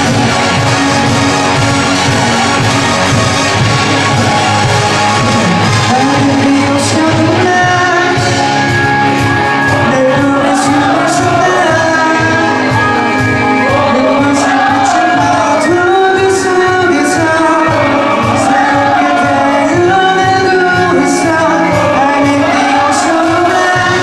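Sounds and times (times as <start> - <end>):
bass guitar: 0.0 - 24.0
drums: 0.0 - 24.0
electric guitars: 0.0 - 24.0
man singing: 4.2 - 24.0.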